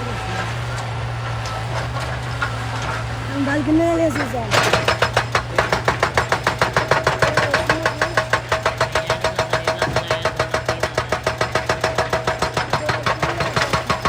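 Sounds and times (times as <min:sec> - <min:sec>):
machinery rapid knocking: 0:00.0 - 0:14.0
steady machinery hum: 0:00.0 - 0:14.0.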